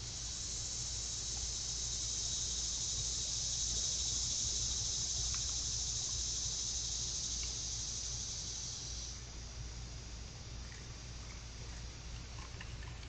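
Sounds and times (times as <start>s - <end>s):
insects buzzing chorus: 0.0s - 12.9s.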